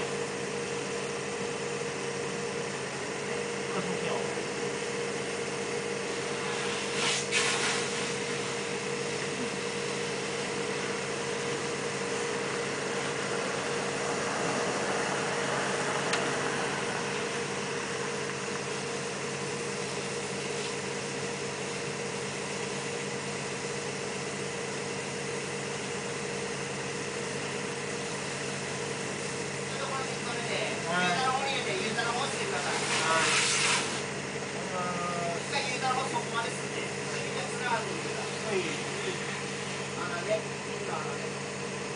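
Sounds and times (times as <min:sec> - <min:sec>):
machinery humming: 0:00.0 - 0:41.9.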